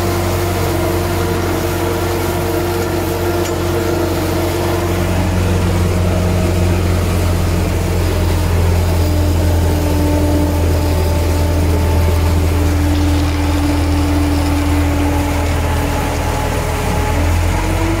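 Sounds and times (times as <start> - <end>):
diesel tractor engine droning: 0.0 - 18.0.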